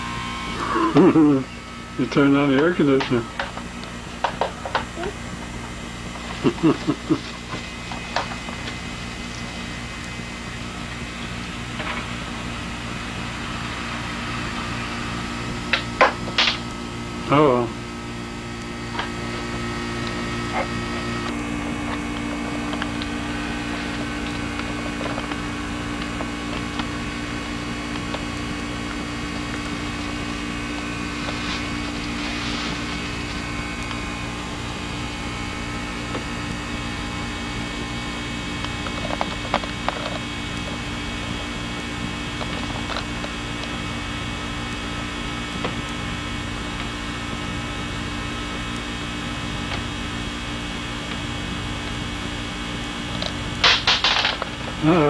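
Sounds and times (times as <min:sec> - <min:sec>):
electrical hum and hiss: 0:00.0 - 0:55.0.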